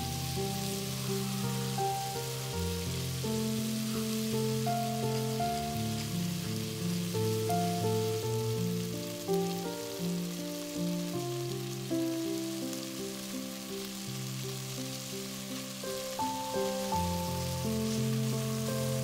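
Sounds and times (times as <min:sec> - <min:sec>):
meat sizzling in oil: 0:00.0 - 0:19.0
slow background music: 0:00.0 - 0:19.0.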